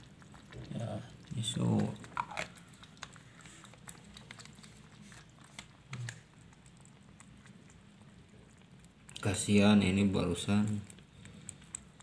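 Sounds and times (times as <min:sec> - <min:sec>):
kittens lapping milk: 0:00.0 - 0:12.0.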